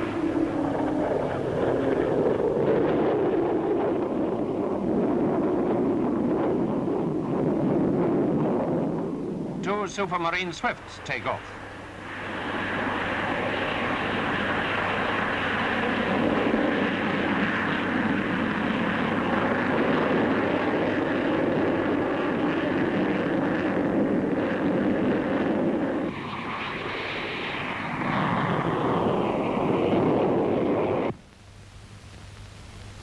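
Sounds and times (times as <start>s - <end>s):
jet fighters taking off: 0.0s - 31.2s.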